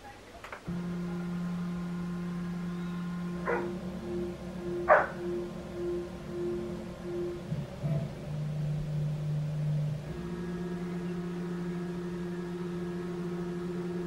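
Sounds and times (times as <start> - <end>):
stepper motors whining: 0.7 - 14.0.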